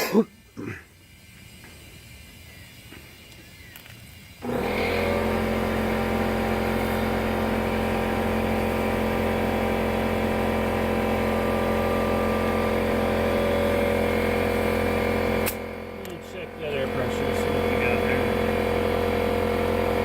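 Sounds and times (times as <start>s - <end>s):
air compressor motor running: 0.0s - 20.0s.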